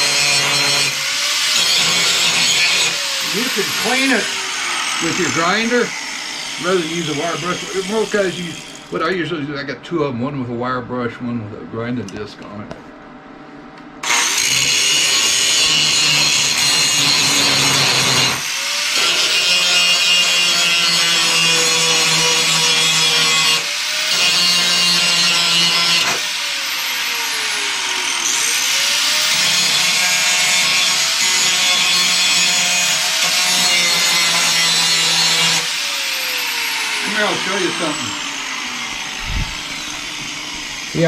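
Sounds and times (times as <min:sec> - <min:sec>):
angle grinder grinding metal: 0:00.0 - 0:09.2, 0:14.0 - 0:41.0.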